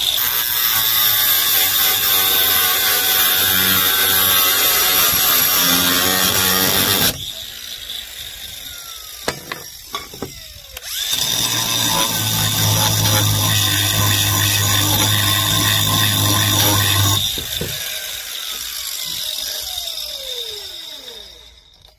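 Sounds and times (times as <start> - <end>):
angle grinder cutting metal: 0.0 - 21.9.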